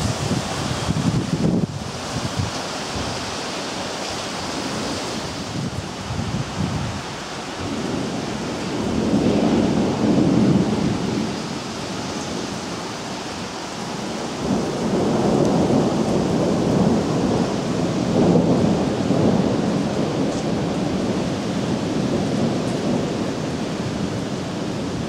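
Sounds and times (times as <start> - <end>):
thunder rumbling: 0.0 - 3.4, 4.2 - 25.0
heavy rain: 0.0 - 25.0.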